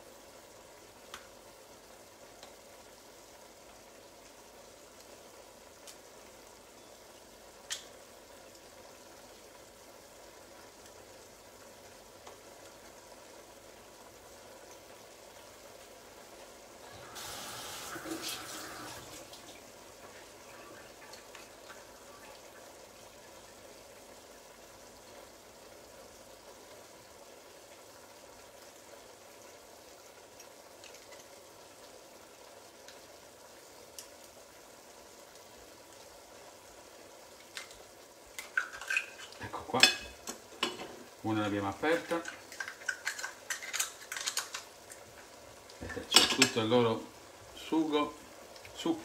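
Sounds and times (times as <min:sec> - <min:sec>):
spaghetti sizzling in a pan: 0:00.0 - 0:49.0.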